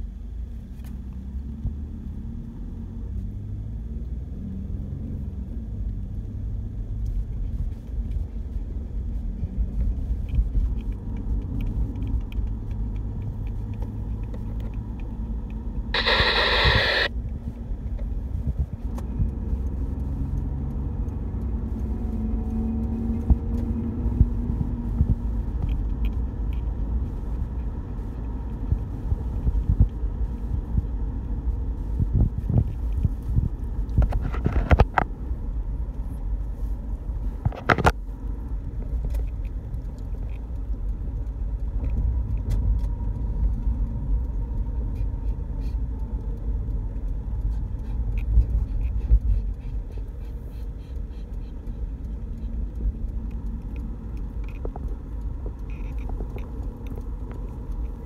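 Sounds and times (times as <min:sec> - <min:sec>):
car rumble from inside cabin: 0:00.0 - 0:58.0.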